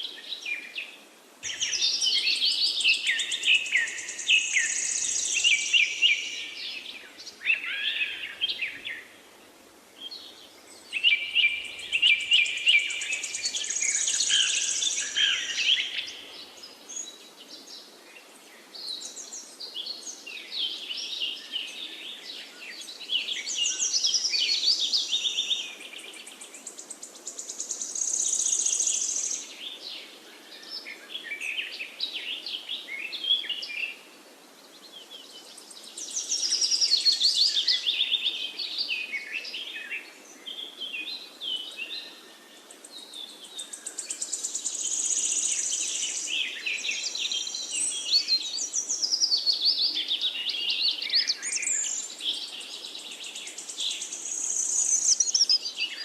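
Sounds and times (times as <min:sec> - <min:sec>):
faint background hiss: 0:00.0 - 0:56.0
songbirds chirping and trilling: 0:00.0 - 0:56.0.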